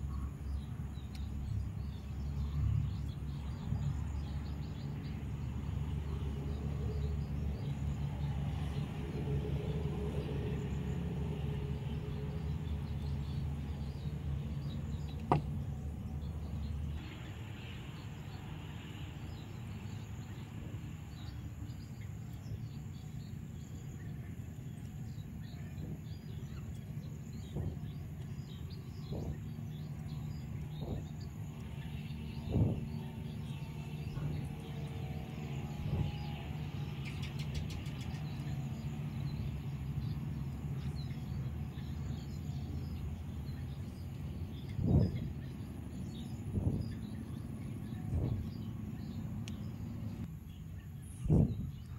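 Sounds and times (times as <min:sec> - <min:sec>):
low background rumble: 0:00.0 - 0:51.9.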